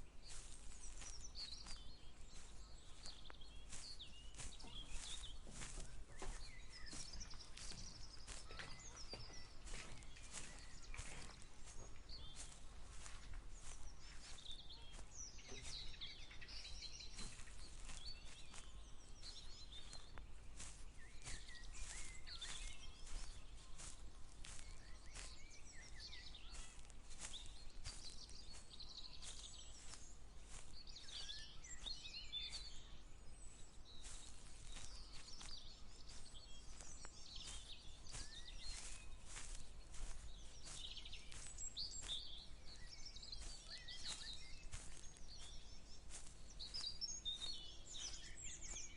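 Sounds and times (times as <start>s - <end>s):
footsteps crunching: 0.0s - 48.9s
birds singing and chirping: 0.2s - 48.9s.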